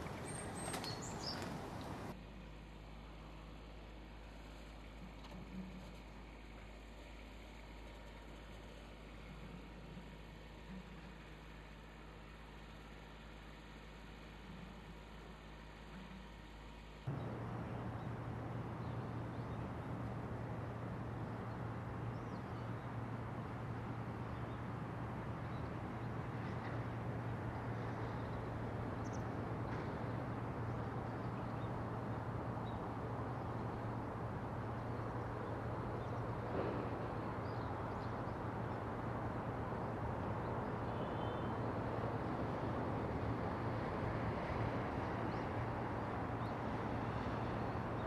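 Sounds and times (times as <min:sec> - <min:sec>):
constant low hum: 0:00.0 - 0:48.0.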